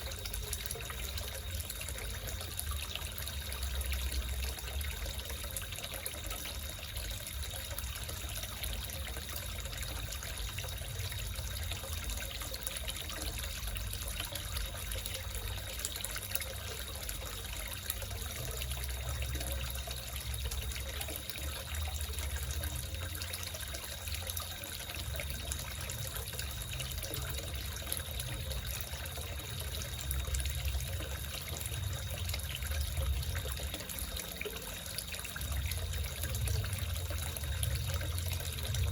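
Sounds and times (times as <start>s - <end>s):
faint steady high tone: 0.0s - 38.9s
water trickling into a pond: 0.0s - 38.9s.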